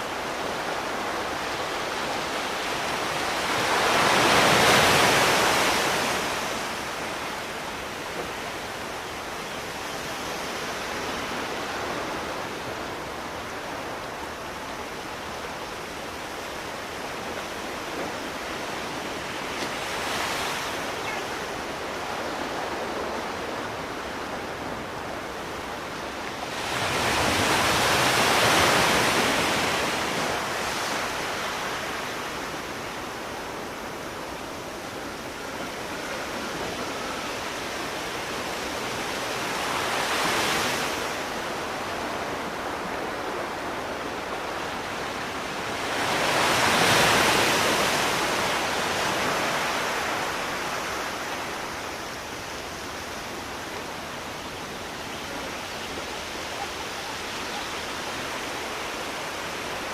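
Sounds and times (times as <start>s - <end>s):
surf washing on shore: 0.0s - 59.9s.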